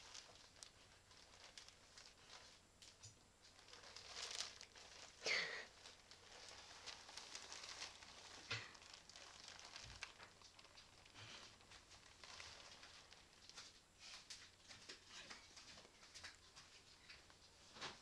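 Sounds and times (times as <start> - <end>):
plastic bag crinkling: 0.0 - 18.0
sharp plastic crackle: 0.0 - 18.0.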